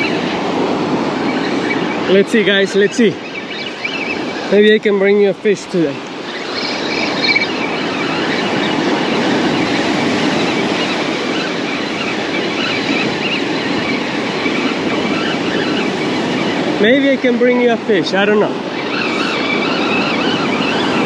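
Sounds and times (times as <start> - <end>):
fishing reel whirring: 0.0 - 21.0.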